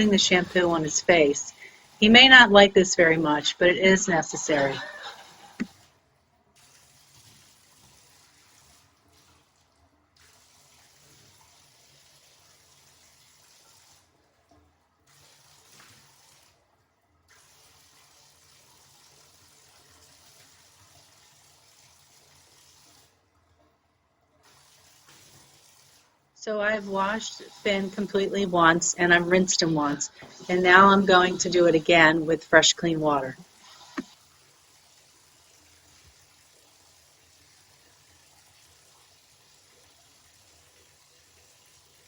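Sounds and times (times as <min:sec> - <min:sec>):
faint running water: 0:00.0 - 0:42.0.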